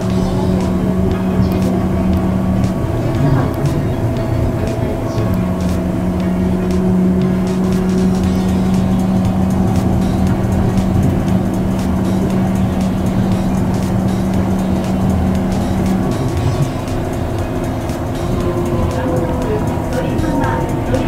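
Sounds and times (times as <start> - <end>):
low motor hum: 0.0 - 21.0
train tyres rumbling: 0.0 - 21.0.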